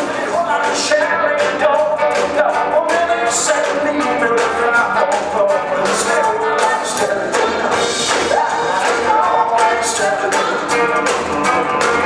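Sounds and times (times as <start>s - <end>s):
man singing: 0.0s - 11.1s
drum beat: 0.0s - 12.0s
electric guitars: 0.0s - 12.0s
upright double bass: 0.0s - 12.0s.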